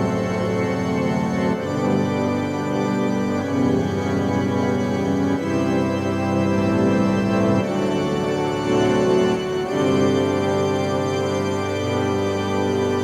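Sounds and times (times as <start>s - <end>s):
keyboard organ chords: 0.0s - 13.0s.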